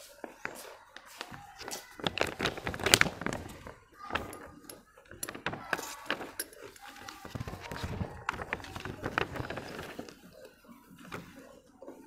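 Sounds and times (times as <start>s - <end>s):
plastic sheet crinkling: 1.1s - 11.6s.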